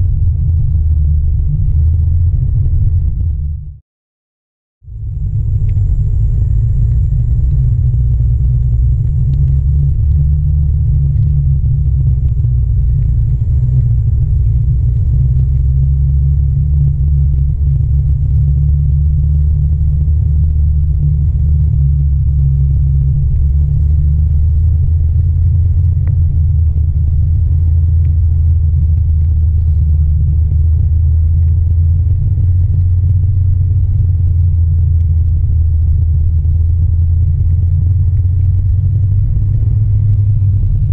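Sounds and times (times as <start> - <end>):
board rolling on asphalt: 5.0 - 40.9.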